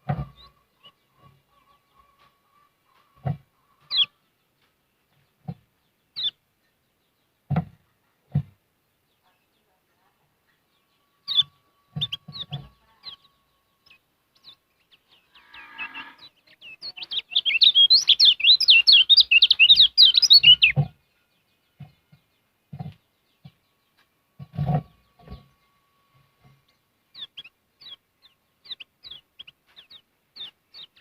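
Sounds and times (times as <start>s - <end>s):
songbird chirps and warbling: 0.0s - 31.0s.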